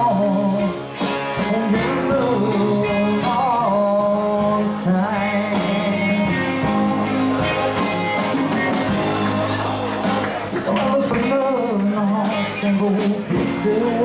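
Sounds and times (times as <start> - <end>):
man singing: 0.0 - 9.1, 10.0 - 14.0
live band playing: 0.0 - 14.0.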